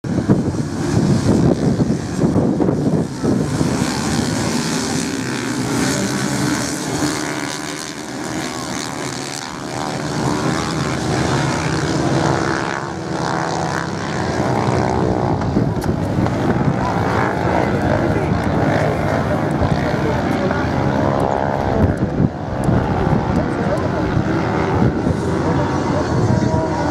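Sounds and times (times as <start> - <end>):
motocross bikes revving: 0.1 - 26.9.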